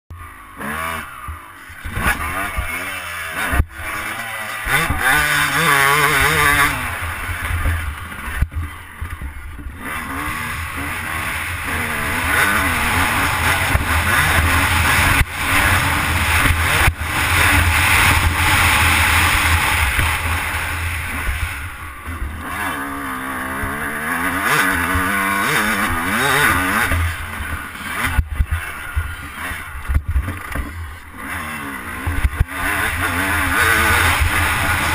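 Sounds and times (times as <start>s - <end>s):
motocross engine revving: 0.2s - 34.9s.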